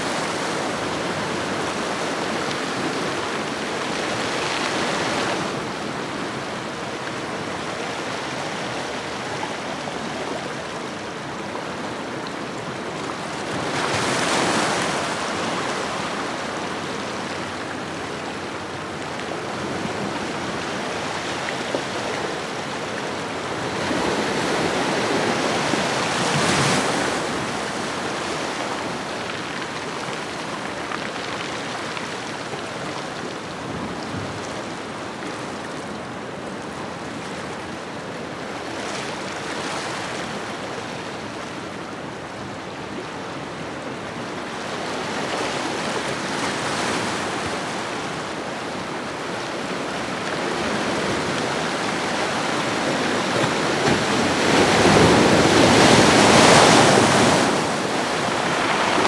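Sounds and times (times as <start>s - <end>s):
ocean waves washing ashore: 0.0s - 35.9s, 37.8s - 59.0s.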